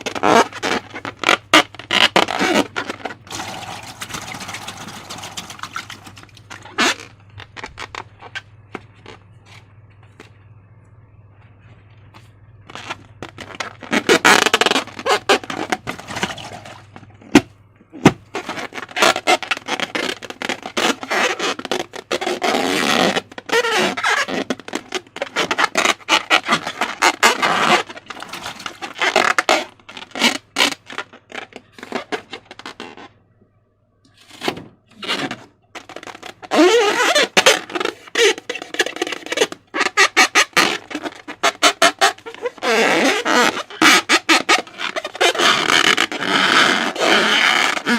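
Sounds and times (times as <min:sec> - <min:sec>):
rubbery squeaks: 0:00.0 - 0:09.7, 0:12.2 - 0:33.2, 0:34.2 - 0:47.9.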